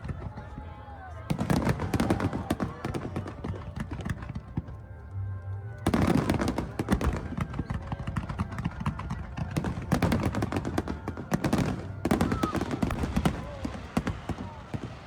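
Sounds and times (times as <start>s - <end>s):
fireworks bangs and crackling: 0.0s - 4.8s, 5.9s - 15.0s
music playing: 0.1s - 15.0s.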